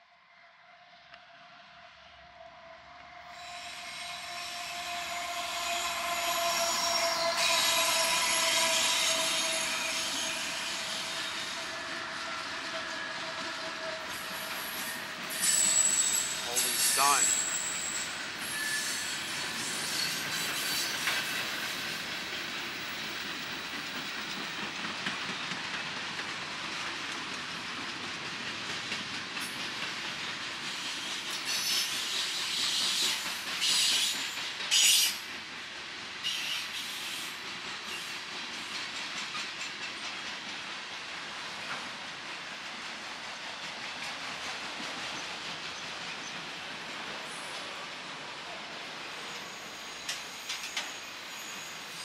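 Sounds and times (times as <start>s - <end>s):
train wheels on track: 2.9s - 52.0s.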